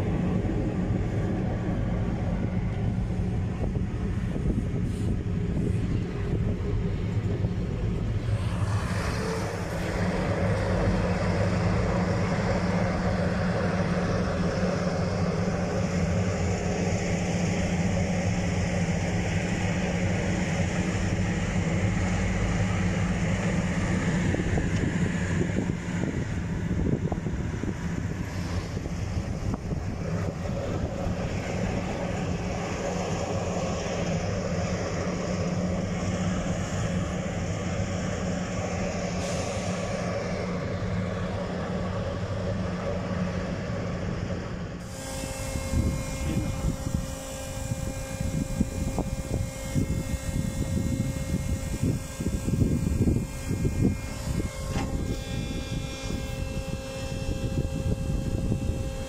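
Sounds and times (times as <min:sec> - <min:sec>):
road and wind noise: 0:00.0 - 0:59.0
vehicle engine droning: 0:00.0 - 0:59.0.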